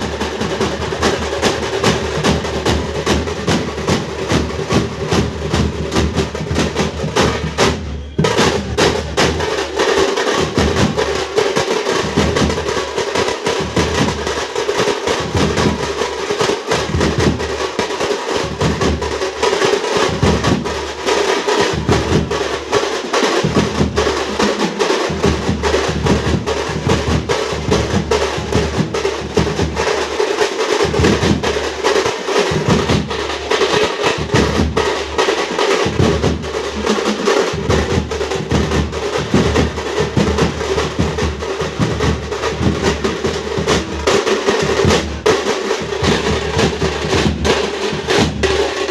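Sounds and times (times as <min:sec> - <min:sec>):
hand drums playing fast rhythm: 0:00.0 - 0:48.9.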